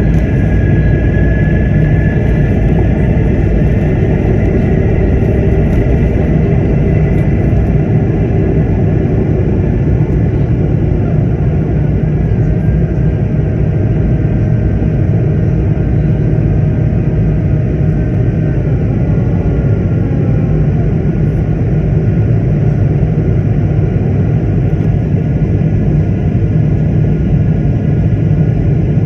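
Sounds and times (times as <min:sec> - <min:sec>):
airliner engine rumble: 0:00.0 - 0:29.0.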